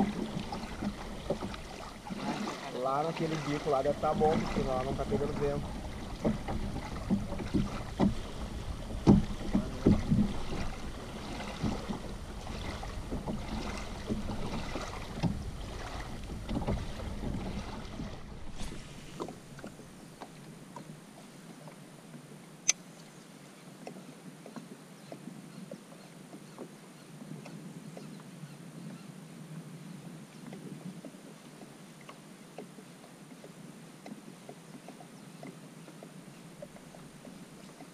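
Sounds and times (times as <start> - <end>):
small waves lapping: 0.0 - 37.9.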